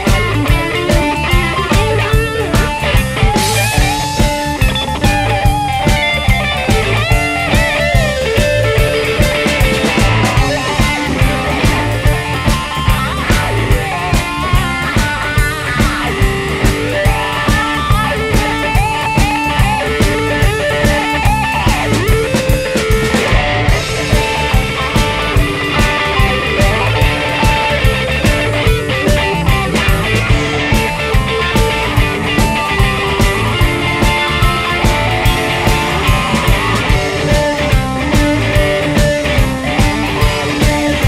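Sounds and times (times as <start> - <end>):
blues rock band playing: 0.0 - 41.0
lead electric guitar bending notes: 0.0 - 41.0.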